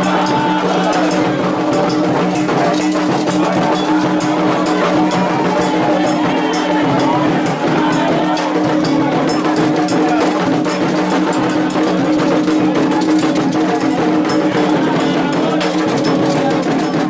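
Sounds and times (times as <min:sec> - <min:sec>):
chanting voices: 0:00.0 - 0:17.0
drums: 0:00.0 - 0:17.0
sharp percussion strikes: 0:00.0 - 0:17.0.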